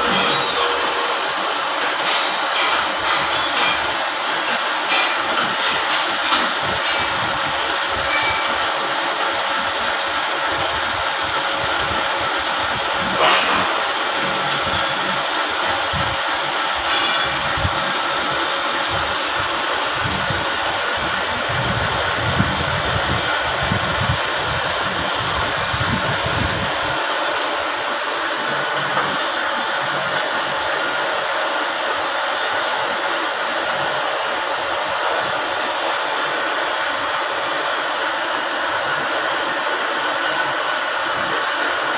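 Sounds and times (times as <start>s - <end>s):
metal lathe whirring: 0.0s - 41.9s.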